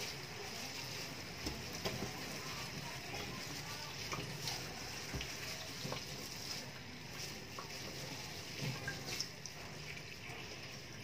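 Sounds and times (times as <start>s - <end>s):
tap water running into a sink: 0.0s - 11.0s.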